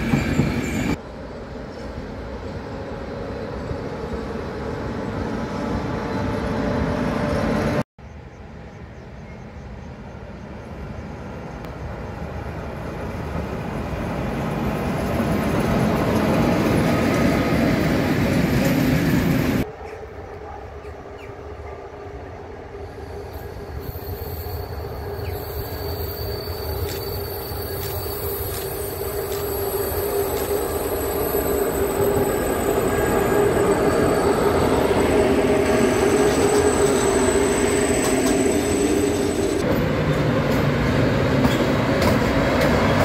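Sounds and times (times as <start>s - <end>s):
electric locomotive hauling train: 0.0s - 43.0s.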